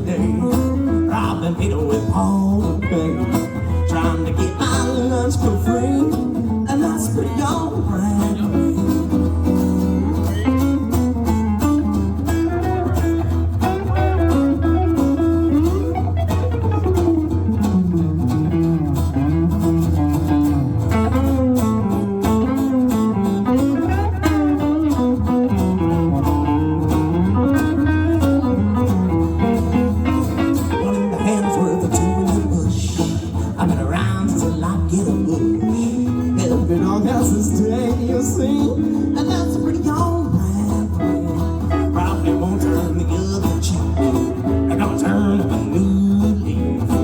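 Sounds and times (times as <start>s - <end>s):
bass and rhythm: 0.0s - 47.0s
lead guitar: 0.0s - 47.0s.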